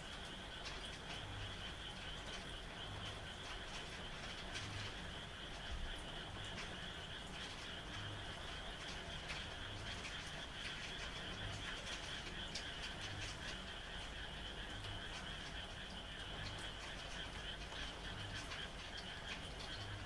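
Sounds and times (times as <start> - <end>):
frogs croaking: 0.0 - 20.0
rain falling: 0.0 - 20.0.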